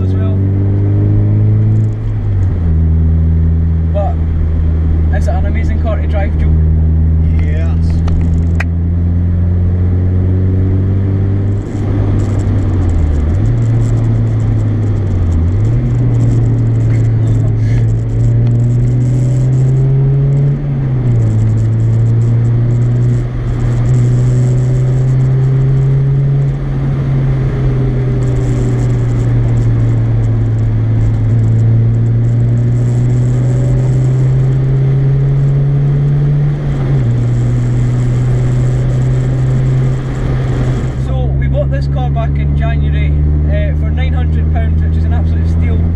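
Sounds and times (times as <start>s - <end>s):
car engine accelerating through gears: 0.0s - 45.9s.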